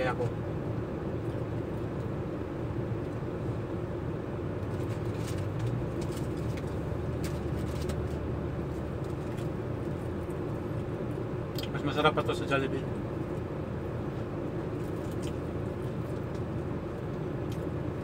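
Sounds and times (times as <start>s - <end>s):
air conditioning drone: 0.0s - 18.0s.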